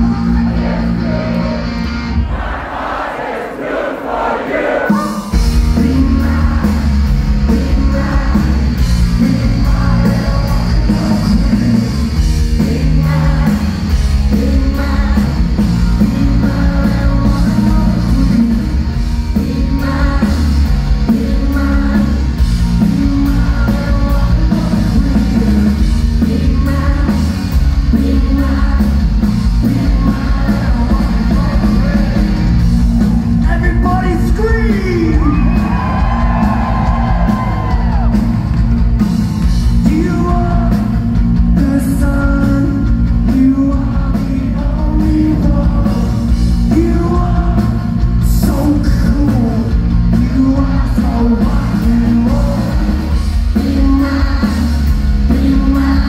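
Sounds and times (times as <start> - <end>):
bass guitar: 0.0 - 2.4, 4.9 - 56.0
drums: 0.0 - 56.0
man singing: 4.9 - 27.3, 27.9 - 32.5, 33.4 - 35.8, 39.8 - 56.0
electric guitar: 5.2 - 56.0.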